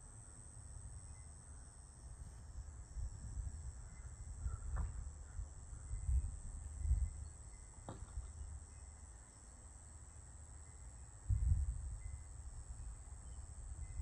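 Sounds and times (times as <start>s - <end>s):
night insects droning: 0.0s - 14.0s.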